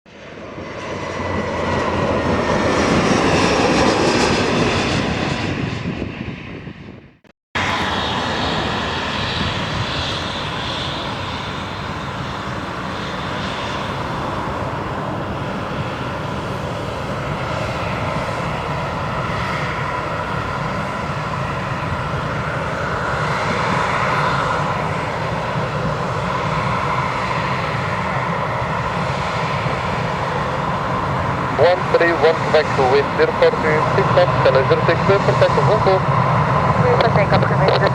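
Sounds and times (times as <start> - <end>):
jet airliner flying by with whine: 0.1 - 37.9
steady jet engine whine: 0.1 - 37.9.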